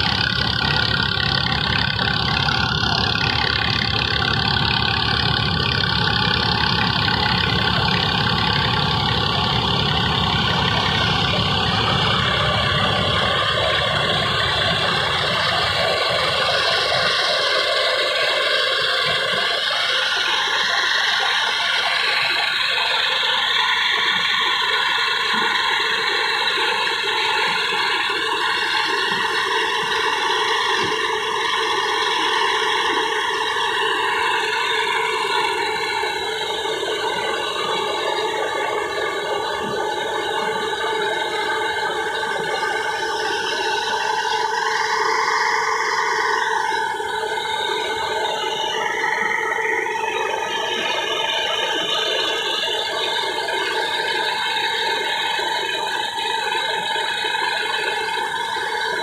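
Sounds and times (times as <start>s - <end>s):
thresher machine whine: 0.0s - 59.0s
tractor engine droning: 0.0s - 59.0s.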